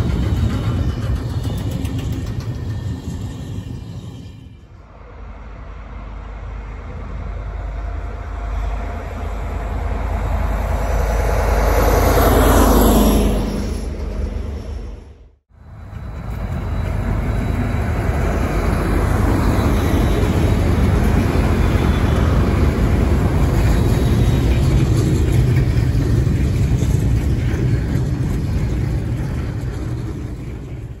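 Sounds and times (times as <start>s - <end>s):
wagons rolling on rails: 0.0s - 4.7s, 9.2s - 31.0s
locomotive engine drone: 0.0s - 31.0s.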